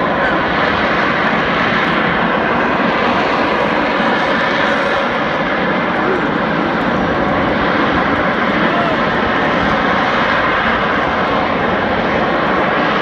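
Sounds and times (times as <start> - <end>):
loud jet engine noise: 0.0 - 13.0.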